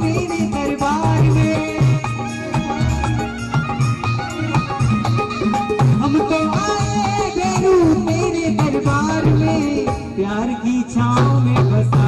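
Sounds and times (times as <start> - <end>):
pitched melody line: 0.0 - 10.2.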